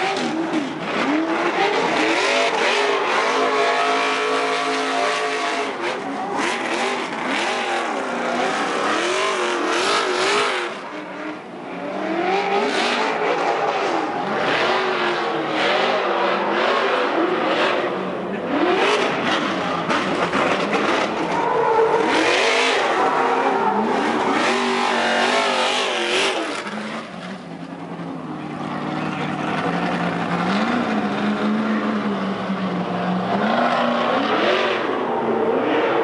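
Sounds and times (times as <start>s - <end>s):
truck engines revving: 0.0s - 36.0s.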